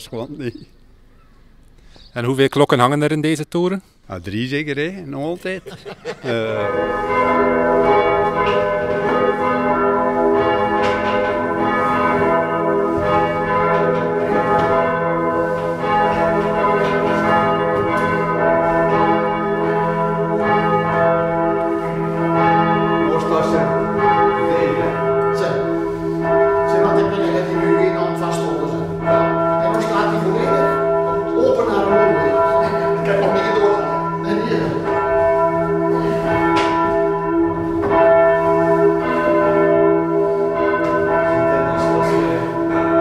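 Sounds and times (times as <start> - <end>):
church bells pealing: 5.1 - 43.0.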